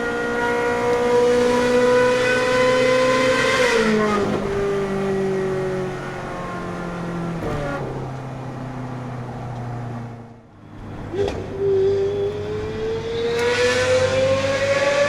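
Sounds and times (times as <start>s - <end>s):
car engine shifting gears: 0.0s - 10.1s, 10.7s - 15.0s.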